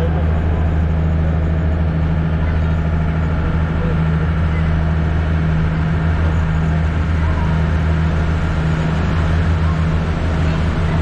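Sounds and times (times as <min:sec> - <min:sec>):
boat engine droning: 0:00.0 - 0:11.0
water rushing along hull: 0:00.0 - 0:11.0.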